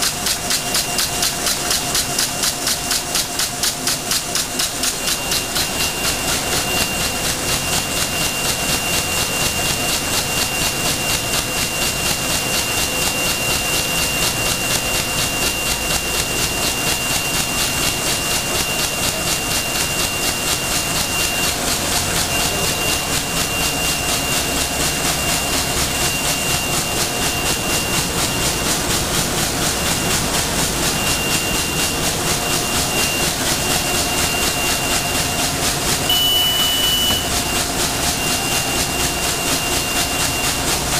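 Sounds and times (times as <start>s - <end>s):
machine high whine: 0.0s - 40.9s
machine rhythmic clicks: 0.0s - 40.9s.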